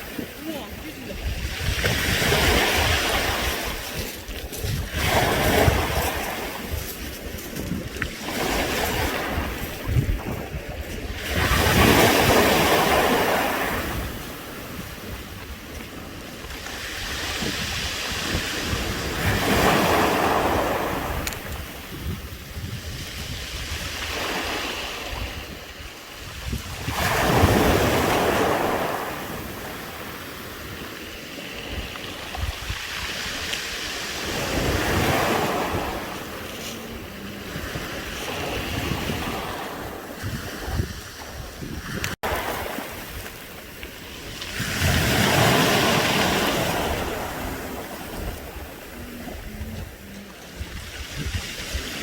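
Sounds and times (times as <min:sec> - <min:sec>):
waves washing over pebbles: 0:00.0 - 0:52.0.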